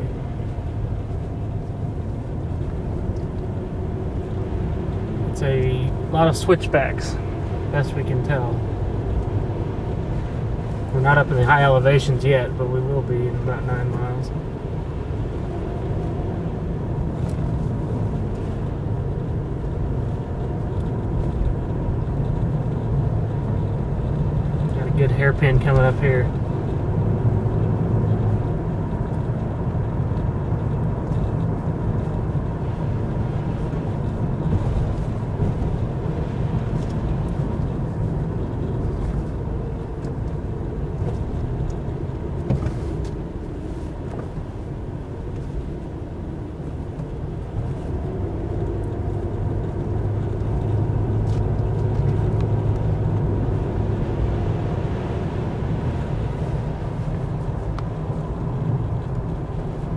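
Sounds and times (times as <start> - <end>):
car cabin road noise: 0.0 - 59.9.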